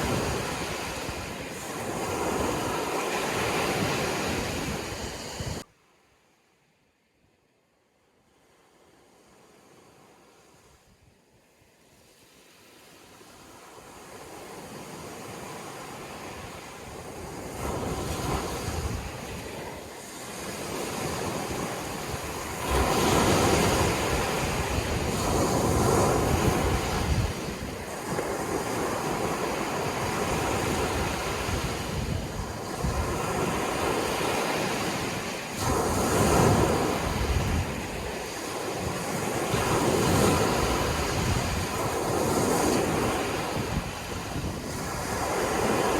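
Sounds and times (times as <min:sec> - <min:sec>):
ocean waves breaking on shore: 0:00.0 - 0:06.0, 0:08.3 - 0:45.9.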